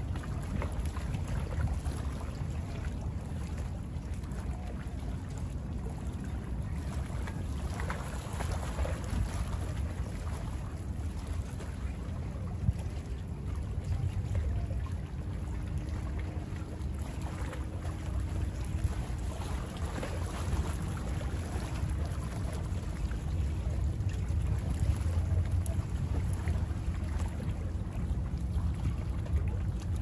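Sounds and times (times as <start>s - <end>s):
small waves lapping: 0.0s - 30.0s.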